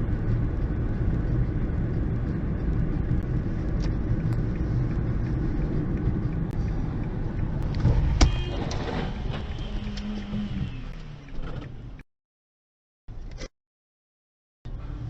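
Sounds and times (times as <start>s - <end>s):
car road and engine rumble: 0.0s - 12.0s, 14.7s - 15.0s.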